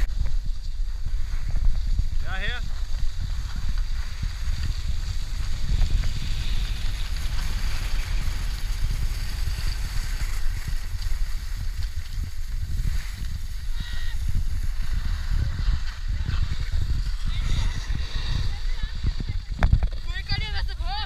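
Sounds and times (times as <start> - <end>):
skis sliding over snow: 0.0 - 21.0
wind buffeting microphone: 0.0 - 21.0.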